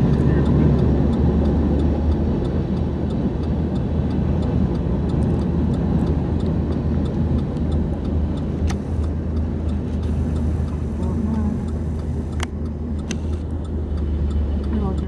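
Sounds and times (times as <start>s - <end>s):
faint regular ticking: 0.0s - 15.0s
train rumbling over bridge: 0.0s - 15.0s.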